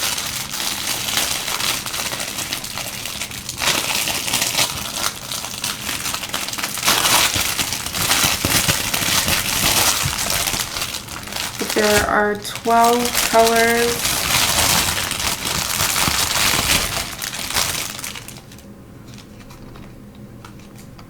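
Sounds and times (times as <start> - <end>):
crinkly packaging rustling: 0.0 - 21.0.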